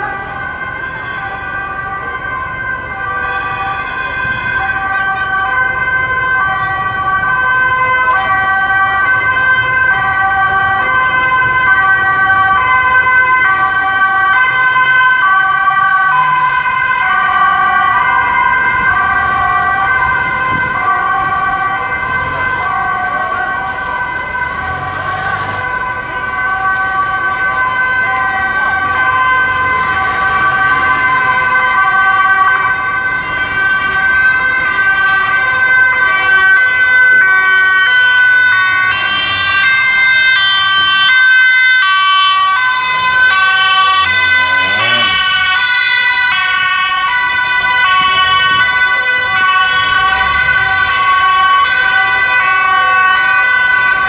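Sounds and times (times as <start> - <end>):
emergency vehicle sirens: 0.0 - 54.0.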